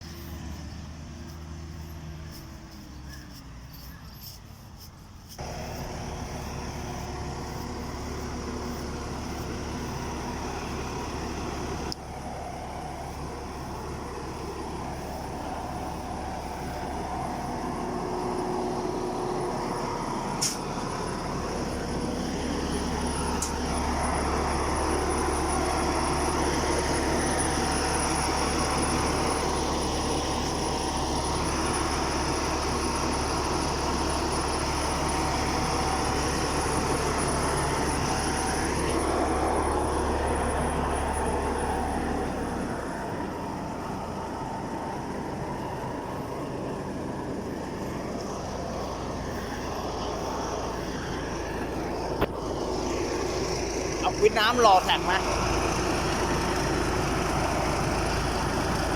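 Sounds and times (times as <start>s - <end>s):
combine harvester engine running: 0.0s - 58.9s.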